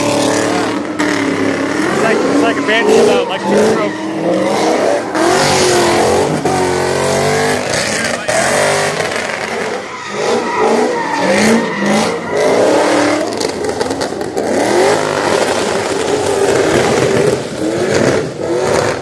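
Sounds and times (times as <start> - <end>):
car engine revving hard: 0.0 - 19.0
tires spinning: 0.0 - 19.0.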